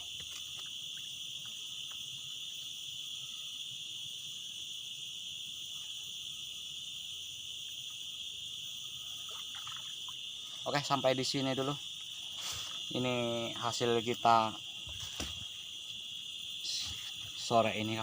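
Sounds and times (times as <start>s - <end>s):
insects buzzing trill: 0.0s - 18.0s.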